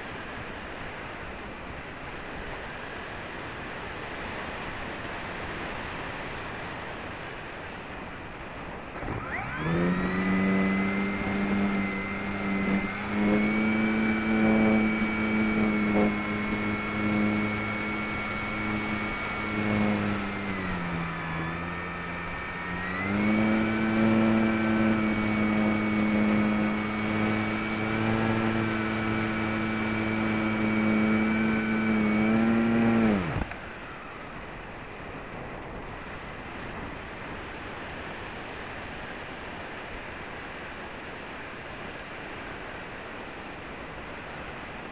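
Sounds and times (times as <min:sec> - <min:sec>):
electric motor and propeller whine: 0:00.0 - 0:44.9.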